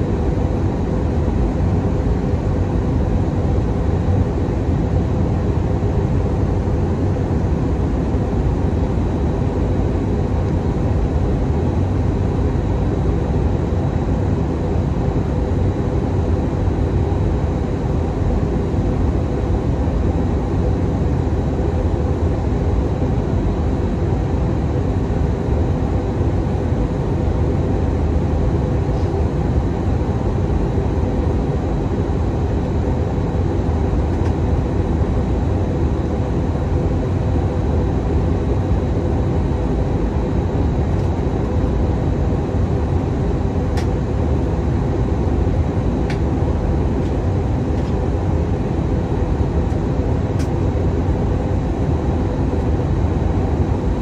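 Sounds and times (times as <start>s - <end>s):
jet engine rumble: 0.0s - 54.0s.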